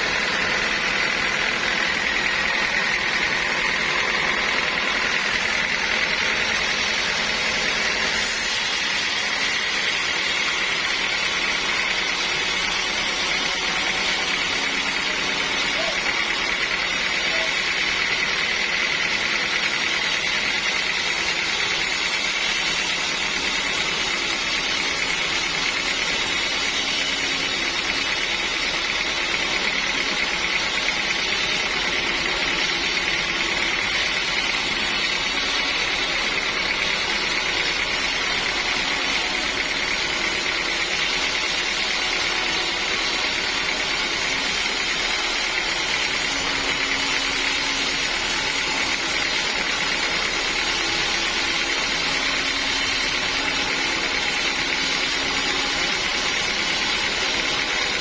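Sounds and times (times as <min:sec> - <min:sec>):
sawmill machinery with high whine: 0:00.0 - 0:58.0.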